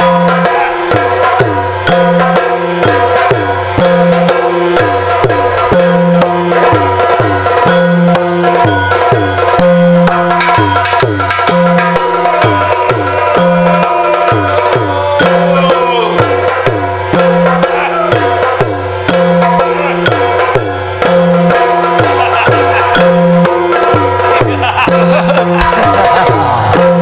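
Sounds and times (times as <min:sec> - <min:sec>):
drums beating: 0:00.0 - 0:27.0.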